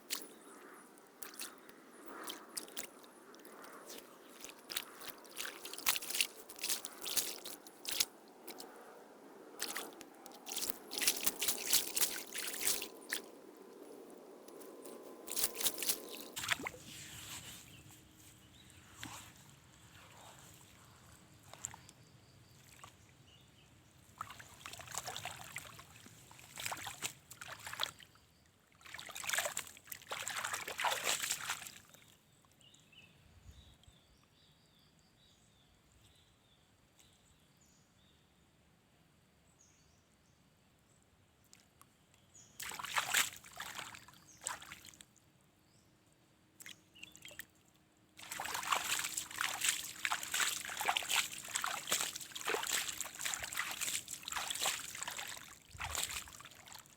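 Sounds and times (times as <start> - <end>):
water sloshing and trickling: 0.0 - 32.8, 42.4 - 45.4, 46.5 - 56.9.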